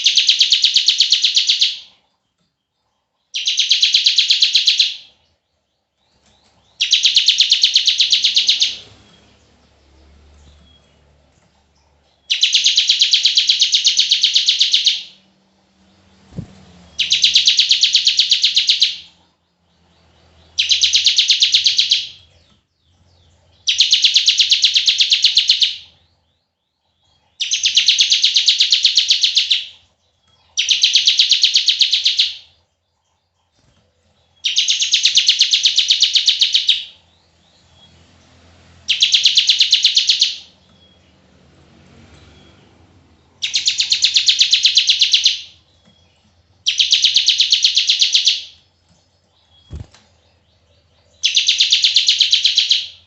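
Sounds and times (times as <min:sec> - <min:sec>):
bird trilling song: 0:00.0 - 0:53.0.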